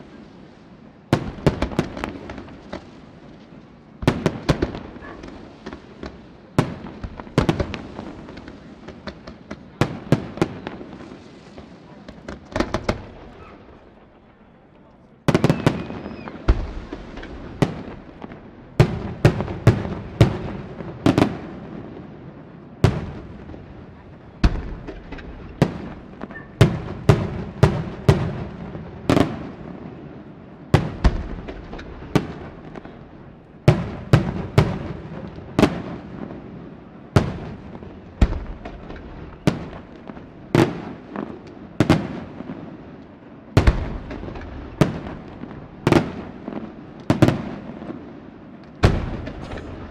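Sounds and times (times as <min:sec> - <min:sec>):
fireworks bursting with echo: 0:00.0 - 0:49.9.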